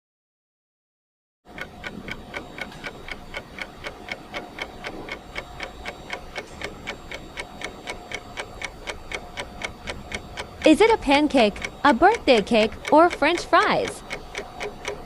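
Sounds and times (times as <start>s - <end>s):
clock ticking: 1.5s - 15.0s.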